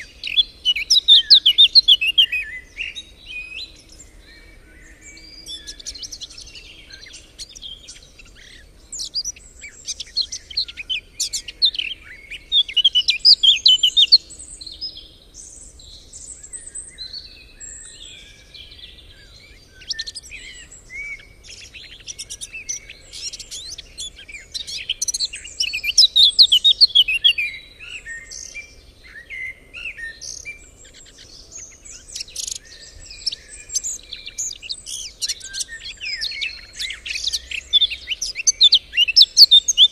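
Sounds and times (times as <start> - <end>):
loud rapid bird song phrases: 0.0 - 39.9
songbirds singing in chorus: 0.0 - 39.9.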